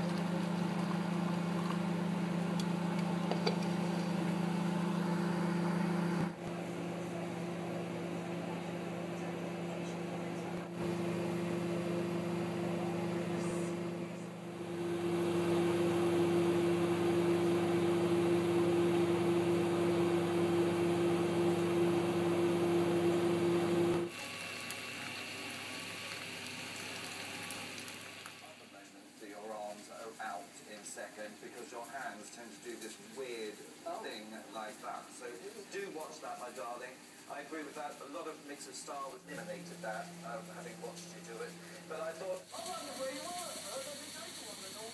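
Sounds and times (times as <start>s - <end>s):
microwave oven humming: 0.0s - 29.2s, 37.0s - 44.9s.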